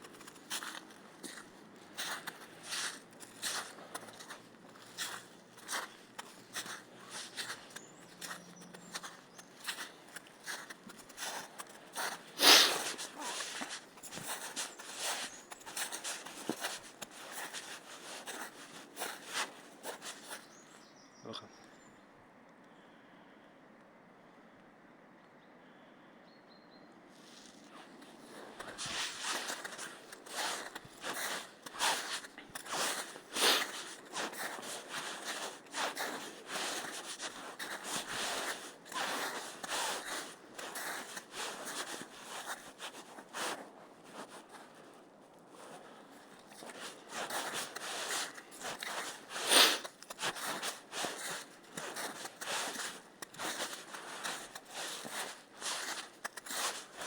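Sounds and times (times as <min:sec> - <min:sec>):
footsteps crunching on forest floor: 0:00.0 - 0:20.8, 0:27.2 - 0:57.0.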